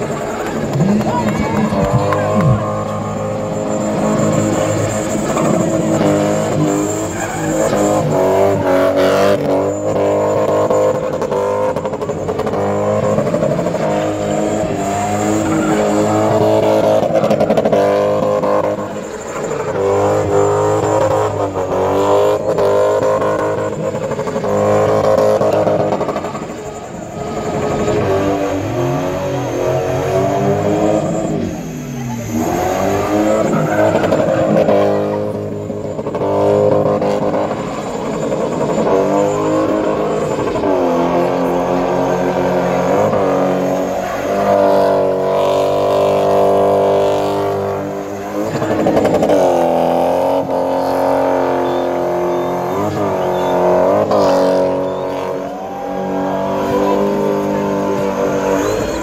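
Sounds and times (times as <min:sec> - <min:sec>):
car engine revving high: 0:00.0 - 0:59.0
tyres spinning: 0:00.0 - 0:59.0.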